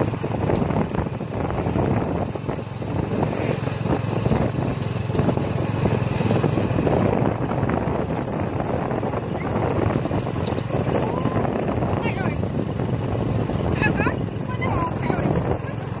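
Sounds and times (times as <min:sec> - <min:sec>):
cart engine and road noise: 0:00.0 - 0:16.0
wind rumbling on microphone: 0:00.0 - 0:16.0.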